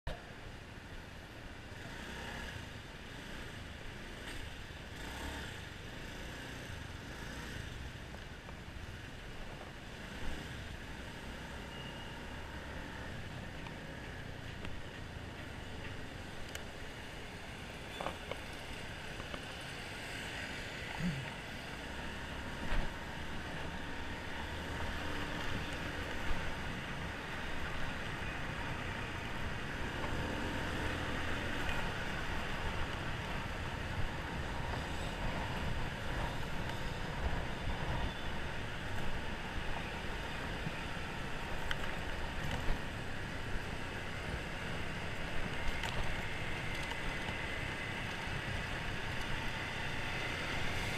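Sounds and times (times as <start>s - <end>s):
wind and road noise: 0.1s - 50.9s
motor scooter running: 1.5s - 50.9s.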